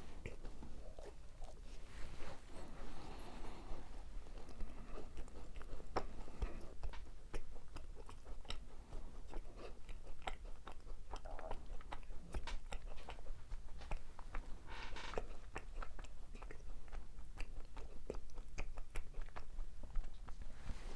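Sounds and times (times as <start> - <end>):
crisp crunches of chewing: 0.1 - 20.4.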